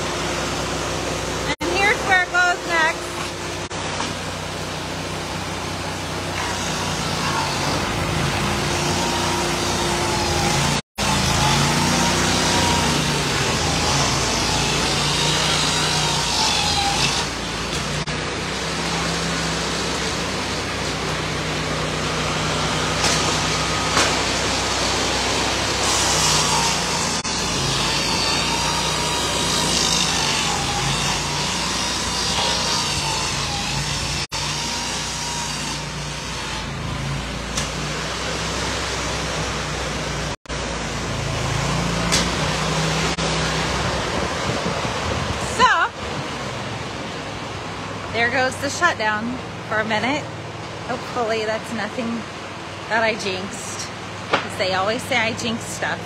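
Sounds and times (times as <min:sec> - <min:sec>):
saw whine: 0:00.0 - 0:47.6
sawmill engine drone: 0:00.0 - 0:56.0.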